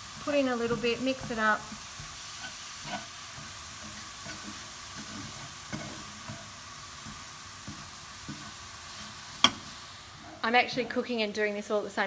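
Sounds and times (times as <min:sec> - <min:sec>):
spatula scraping and tapping pan: 0:00.0 - 0:11.1
cauliflower rice sizzling in a pan: 0:00.0 - 0:12.0.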